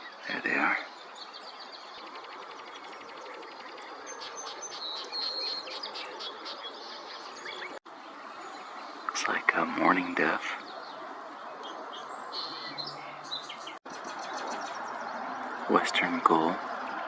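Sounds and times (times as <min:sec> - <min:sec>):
outdoor background hiss: 0:00.0 - 0:14.1
songbirds chirping and singing: 0:00.0 - 0:17.0.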